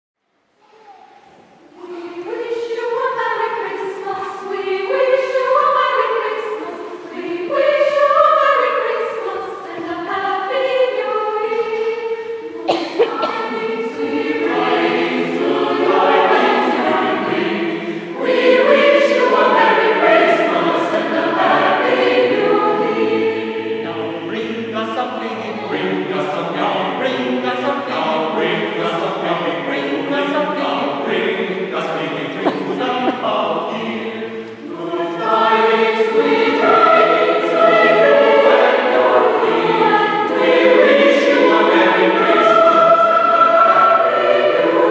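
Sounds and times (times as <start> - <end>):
choir singing a cappella: 1.5 - 44.9.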